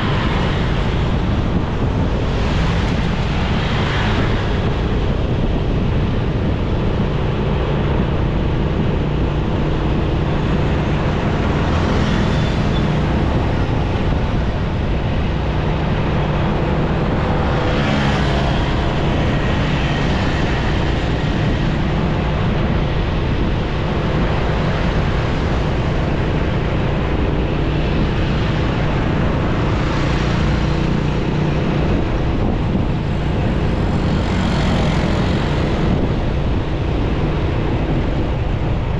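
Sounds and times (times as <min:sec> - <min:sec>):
road and traffic noise: 0:00.0 - 0:38.9.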